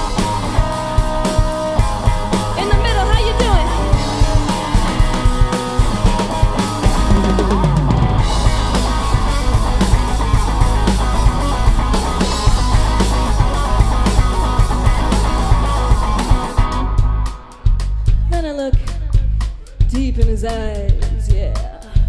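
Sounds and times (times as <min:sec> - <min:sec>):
live rock band playing: 0:00.0 - 0:17.7
drum kit beat: 0:00.0 - 0:22.0.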